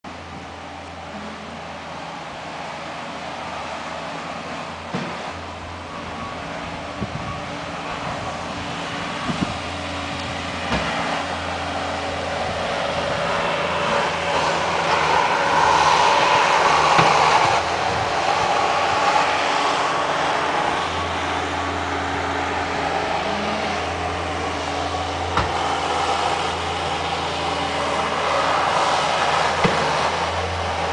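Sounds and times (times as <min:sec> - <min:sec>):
loader engine running: 0:00.0 - 0:30.9.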